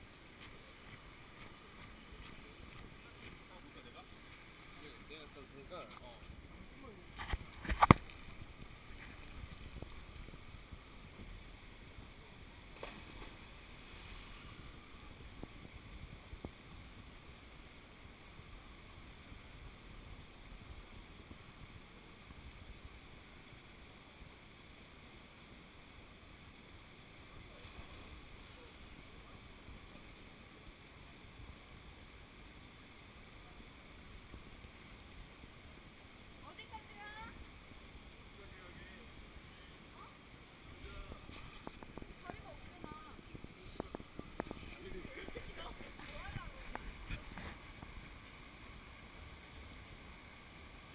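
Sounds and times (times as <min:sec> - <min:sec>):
mountain stream hissing: 0:00.0 - 0:50.9.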